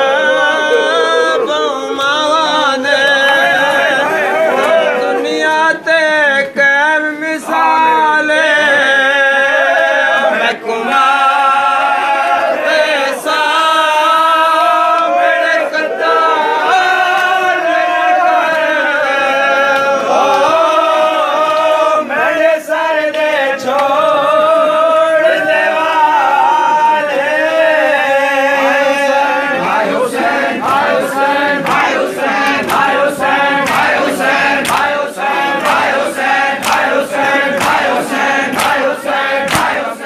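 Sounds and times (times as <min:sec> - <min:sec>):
men chanting together: 0:00.0 - 0:40.0.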